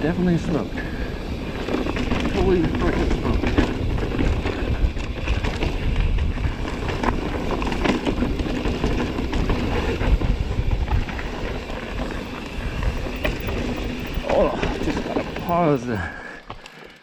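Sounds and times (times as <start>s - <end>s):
bike clicks and rattles: 0.0s - 17.0s
bike tyres rumbling on dirt: 0.0s - 17.0s.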